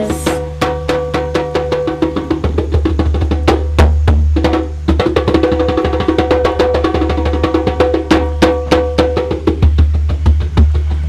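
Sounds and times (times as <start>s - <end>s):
rapid clicking percussion: 0.0s - 11.0s.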